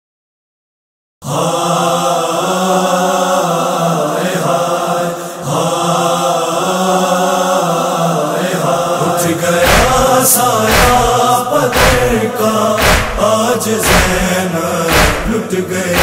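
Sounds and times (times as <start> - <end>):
chorus chanting a humming drone: 1.2 - 16.0.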